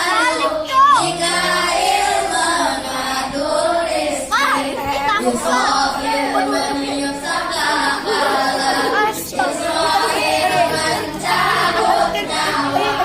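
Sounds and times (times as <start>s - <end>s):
girl singing: 0.0s - 1.2s, 2.0s - 13.0s.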